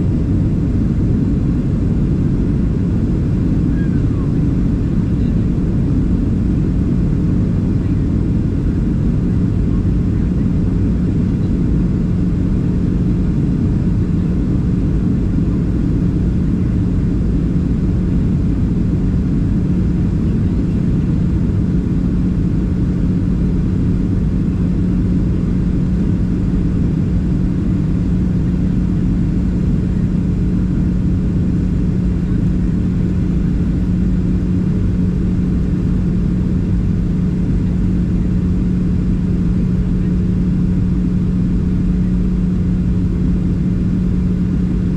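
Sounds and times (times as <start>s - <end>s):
low engine drone: 0.0s - 44.9s.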